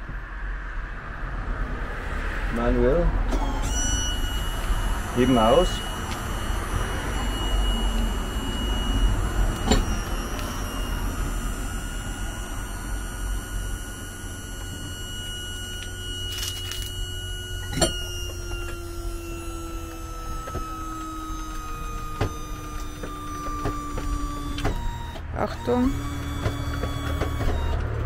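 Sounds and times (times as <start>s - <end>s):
jack motor whining: 2.6s - 28.0s.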